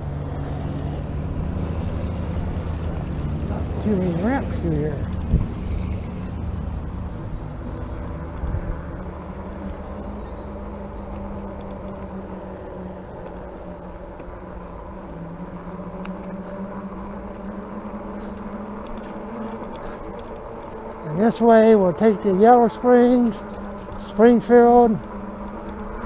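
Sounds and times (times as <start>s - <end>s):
electric bike motor hum: 0.0s - 26.0s
road noise: 0.0s - 26.0s
rushing wind: 0.0s - 26.0s.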